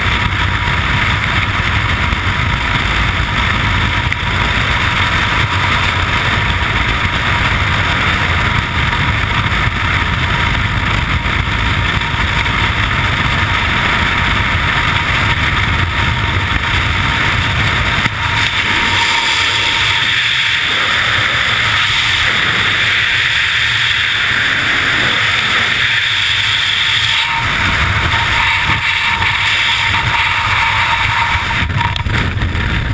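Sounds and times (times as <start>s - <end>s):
wind rushing over microphone: 0.0s - 32.9s.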